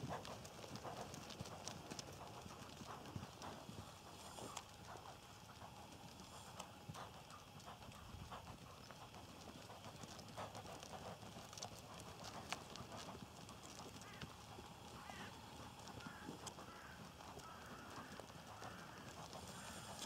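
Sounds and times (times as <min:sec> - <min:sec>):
hoofbeats on sand: 0:00.0 - 0:20.0.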